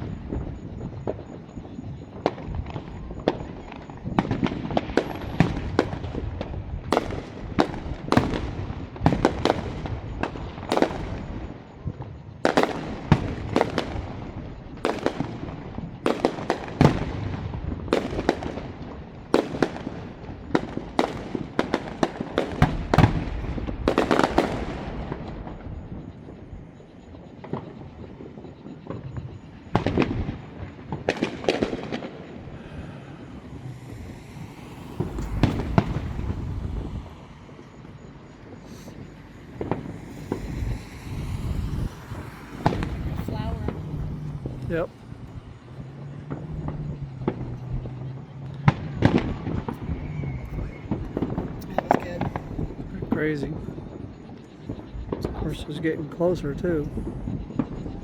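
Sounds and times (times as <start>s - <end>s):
fireworks bursting with echoing bangs: 0.0s - 58.0s.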